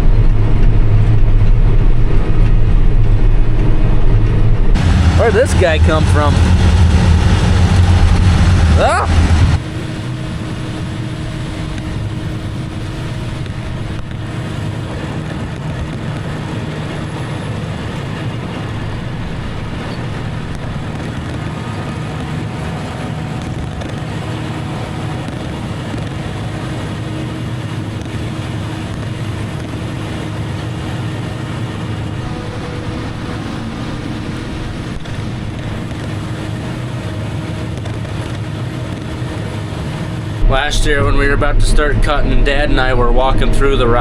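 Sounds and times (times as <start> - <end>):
mowing machine engine drone: 0.0 - 44.0.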